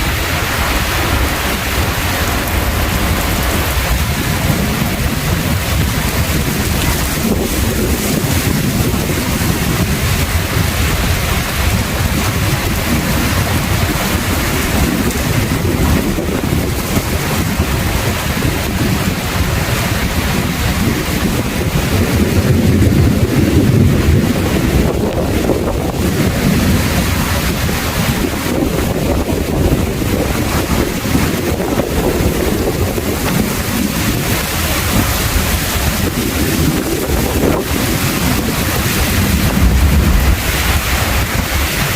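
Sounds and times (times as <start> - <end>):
heavy rain pouring: 0.0 - 41.9
wind buffeting microphone: 0.0 - 41.9.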